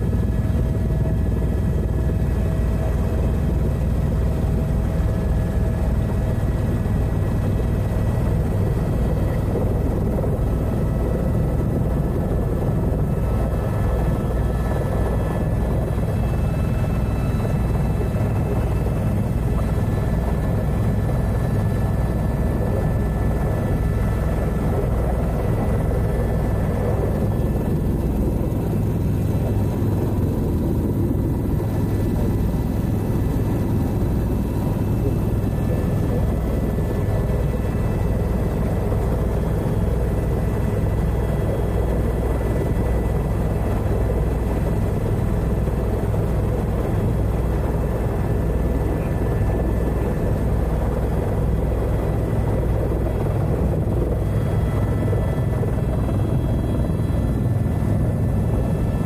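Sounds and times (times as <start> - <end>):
helicopter rotor beat: 0.0 - 59.0
turbine whine: 0.0 - 59.0.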